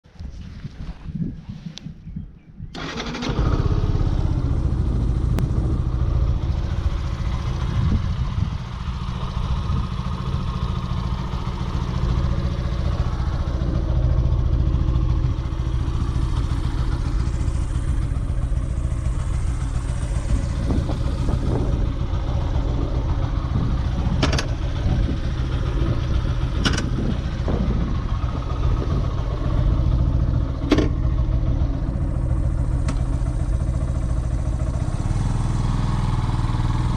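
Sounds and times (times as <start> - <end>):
motorcycle engine running: 2.8 - 36.9.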